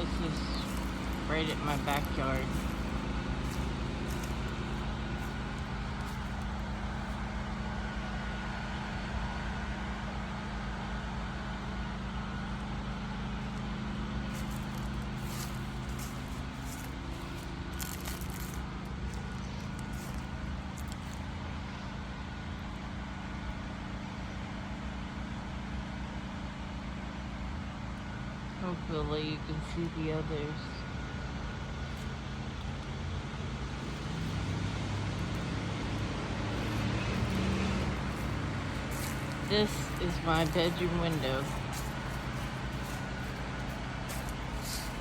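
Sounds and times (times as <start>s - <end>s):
generator engine humming: 0.0s - 22.3s, 28.7s - 45.0s.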